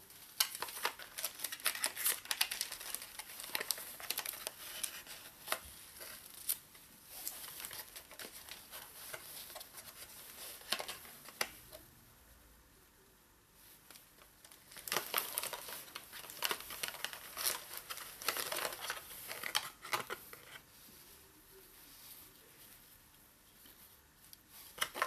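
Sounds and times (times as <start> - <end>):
cardboard and paper rustling: 0.0 - 11.8, 13.7 - 22.8, 23.6 - 25.0.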